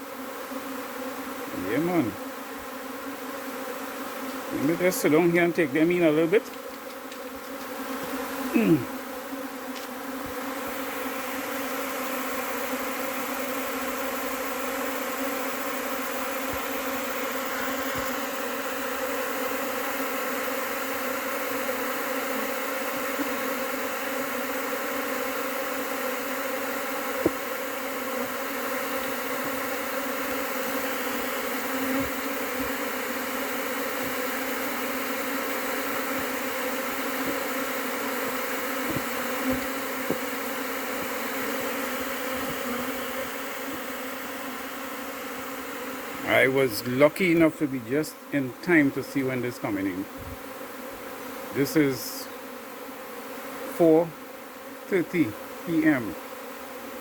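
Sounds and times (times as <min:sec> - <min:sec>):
bee buzzing past: 0:00.0 - 0:57.0
bee swarm humming: 0:00.0 - 0:57.0.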